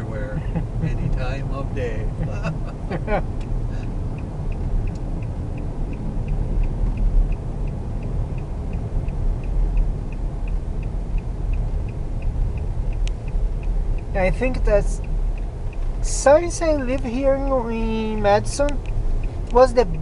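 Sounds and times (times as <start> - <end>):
light regular ticking: 0.0 - 20.0
road and engine rumble: 0.0 - 20.0.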